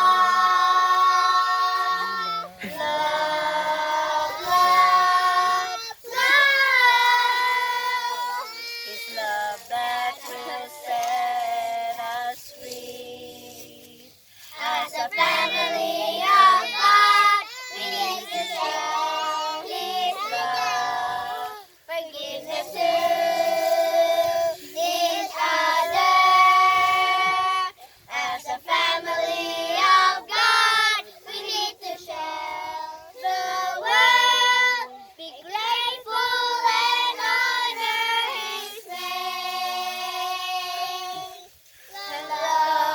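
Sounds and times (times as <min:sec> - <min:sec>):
children singing: 0:00.0 - 0:42.9.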